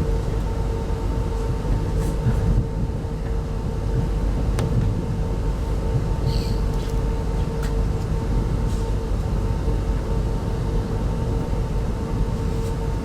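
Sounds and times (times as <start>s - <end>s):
train coach rumble: 0.0s - 13.0s.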